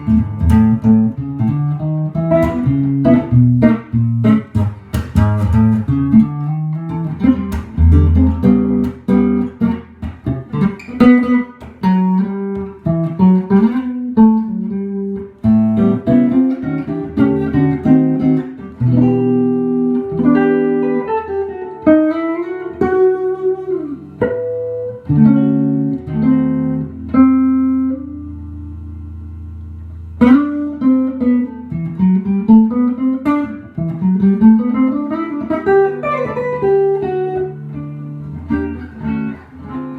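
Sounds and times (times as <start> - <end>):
clean electric guitar playing: 0.0 - 39.9.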